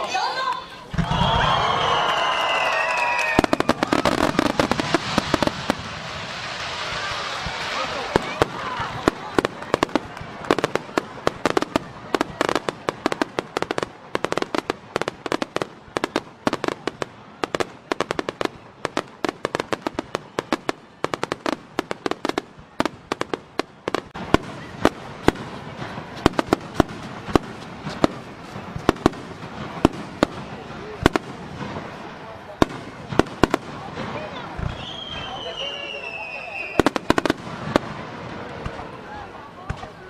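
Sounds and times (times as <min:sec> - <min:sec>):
fireworks bursting and crackling: 0:00.0 - 0:40.0
loud fireworks bangs: 0:00.2 - 0:40.0.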